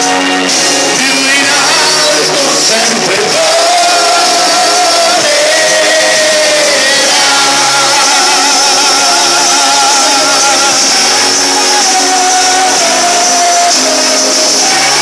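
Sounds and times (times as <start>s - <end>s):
group singing along: 0.0s - 15.0s
man singing through loudspeaker: 0.0s - 15.0s.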